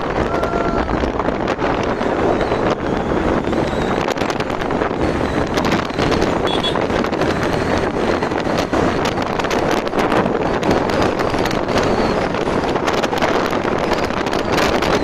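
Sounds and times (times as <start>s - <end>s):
motorbike road and engine noise: 0.0s - 15.0s
wind rushing over microphone: 0.0s - 15.0s.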